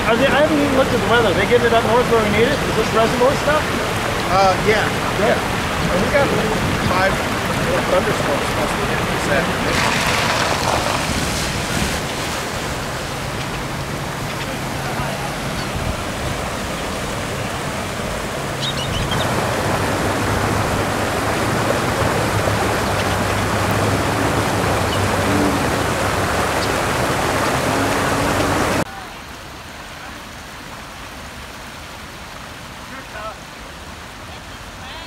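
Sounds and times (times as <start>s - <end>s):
flood water rushing over pavement: 0.0s - 35.0s.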